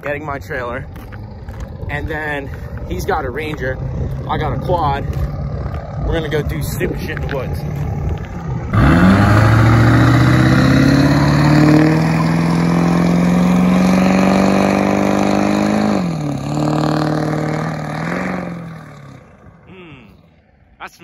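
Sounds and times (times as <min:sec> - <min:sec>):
truck engine accelerating: 0:00.0 - 0:20.5.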